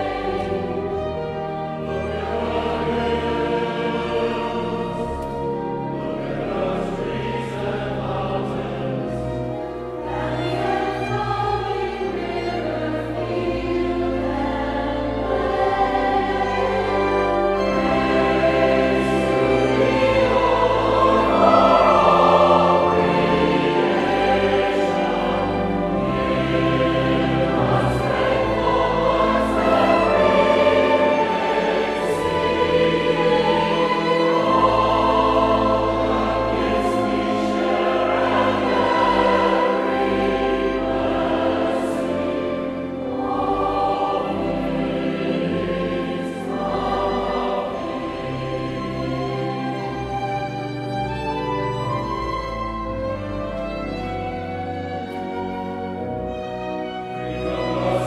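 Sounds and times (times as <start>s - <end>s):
large choir singing: 0.0s - 58.0s
small instrumental ensemble: 0.0s - 58.0s.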